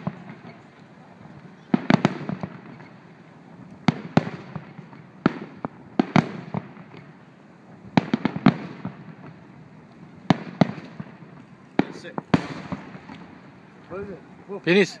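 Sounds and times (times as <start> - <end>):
firework shells bursting: 0.0 - 14.4.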